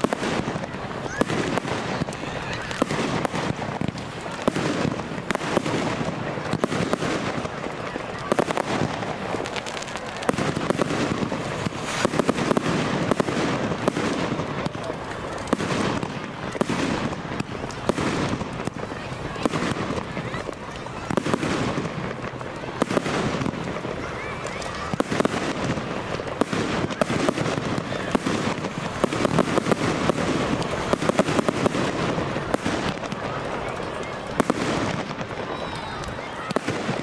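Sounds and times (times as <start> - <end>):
fireworks bangs and crackles: 0.0 - 37.0
fireworks crackle and fizz: 0.0 - 37.0.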